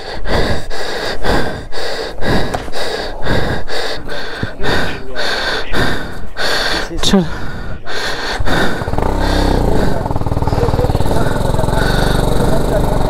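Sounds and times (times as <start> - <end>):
person panting hard: 0.0 - 12.8.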